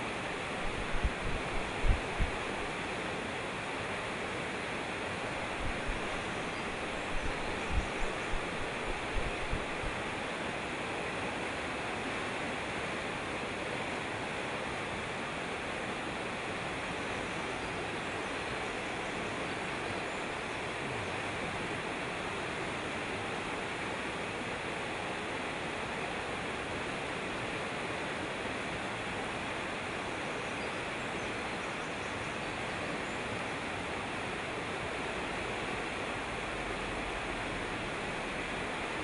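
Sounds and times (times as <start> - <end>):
stream rushing over boulders: 0.0 - 39.0.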